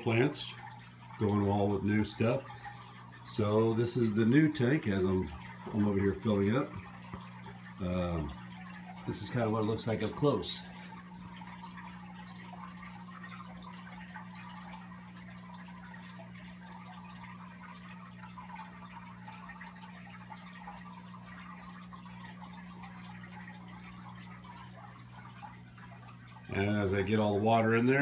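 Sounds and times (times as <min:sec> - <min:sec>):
water running from a hose: 0:00.0 - 0:28.0.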